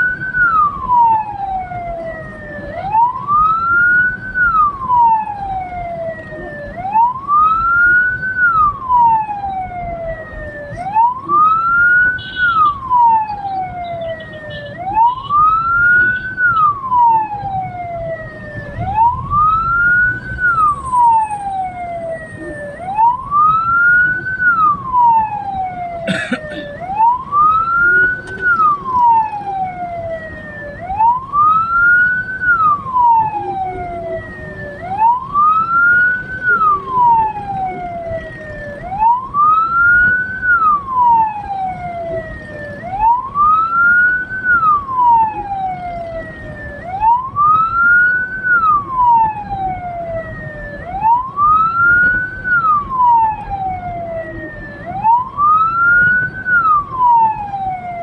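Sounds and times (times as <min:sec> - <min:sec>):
electronic siren wailing: 0:00.0 - 0:58.0
low vehicle rumble: 0:00.0 - 0:58.0.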